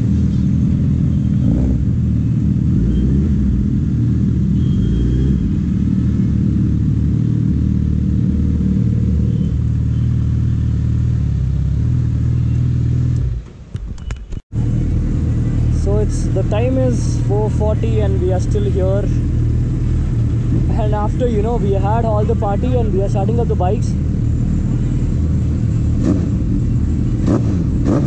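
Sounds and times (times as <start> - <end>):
motorcycle engine idling: 0.0 - 13.0, 14.6 - 27.7.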